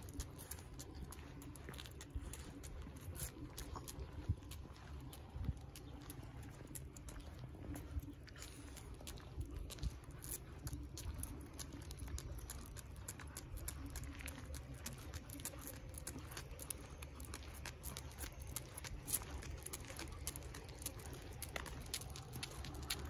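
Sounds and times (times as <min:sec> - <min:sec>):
dog claws clicking on asphalt: 0:00.0 - 0:23.0
low steady rumble: 0:00.0 - 0:23.0.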